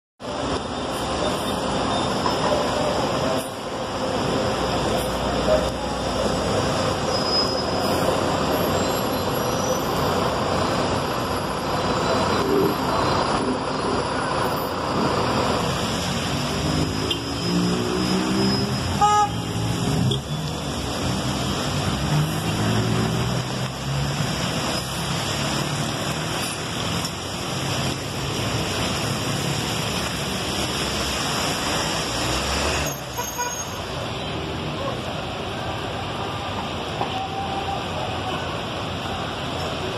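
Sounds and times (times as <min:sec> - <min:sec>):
car and bus engines: 0:00.2 - 0:39.9
heavy rain on flooded street: 0:00.2 - 0:39.9
tyres on wet road: 0:00.2 - 0:39.9.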